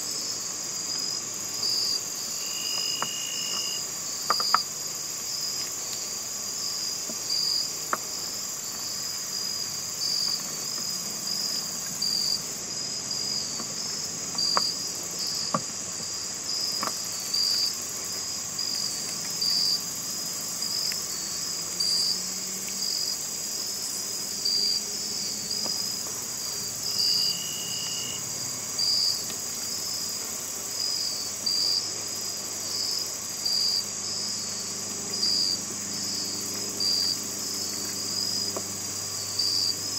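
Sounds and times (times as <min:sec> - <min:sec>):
crickets trilling: 0:00.0 - 0:39.9
loud insect chirp: 0:00.0 - 0:39.9.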